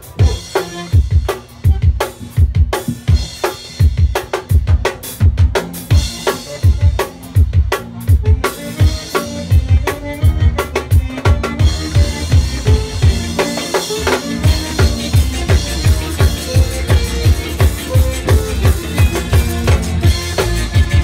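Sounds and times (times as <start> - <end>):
band's low notes: 0.0 - 21.0
drum kit playing a driving beat: 0.0 - 21.0.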